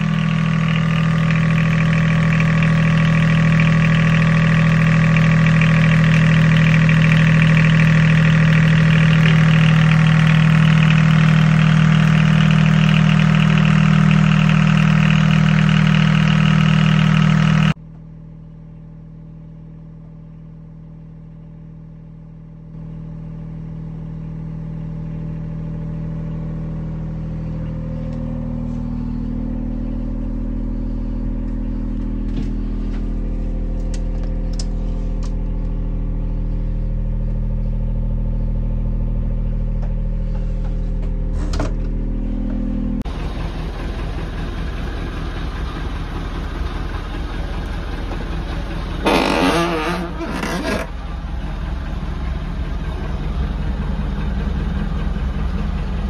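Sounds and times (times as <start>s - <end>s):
generator engine humming: 0.0s - 17.8s, 22.6s - 56.0s.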